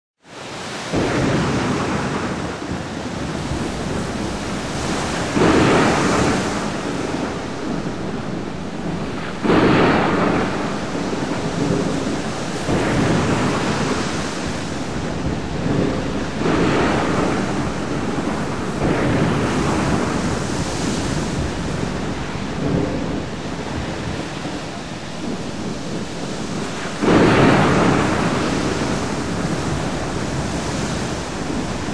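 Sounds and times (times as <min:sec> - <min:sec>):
steady rain: 0:00.2 - 0:31.9
waves: 0:00.2 - 0:31.9
wind: 0:00.2 - 0:31.9
rolling thunder: 0:00.9 - 0:31.9.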